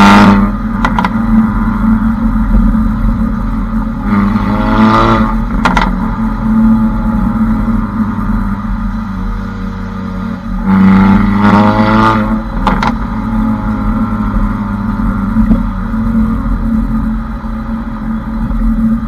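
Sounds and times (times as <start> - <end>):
car exhaust drone accelerating: 0.0 - 19.0
exhaust crack: 0.0 - 19.0.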